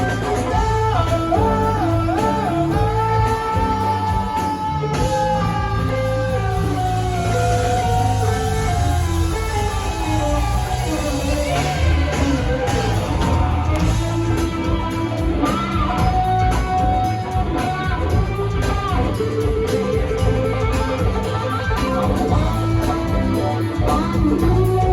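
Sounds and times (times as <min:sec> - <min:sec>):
electric guitar lead bending notes: 0:00.0 - 0:24.9
live rock band playing: 0:00.0 - 0:24.9.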